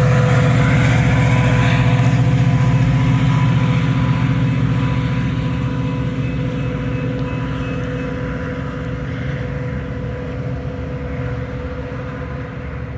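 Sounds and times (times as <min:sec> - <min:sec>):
diesel train drone: 0:00.0 - 0:12.9.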